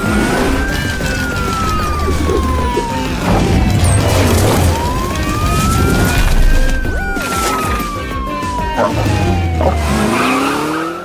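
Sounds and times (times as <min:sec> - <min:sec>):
background music: 0:00.0 - 0:11.0
siren wailing: 0:00.0 - 0:11.0.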